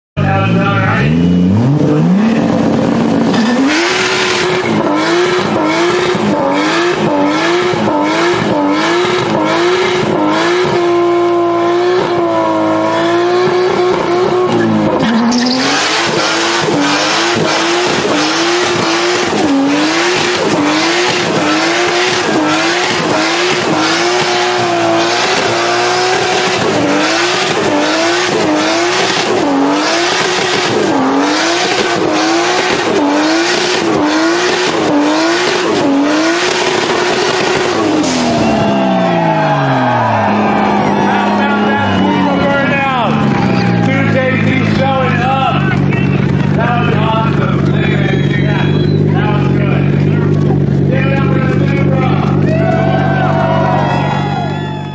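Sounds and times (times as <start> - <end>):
car engine at high revs: 0.2 - 54.7
spinning tyres squealing: 0.6 - 54.9.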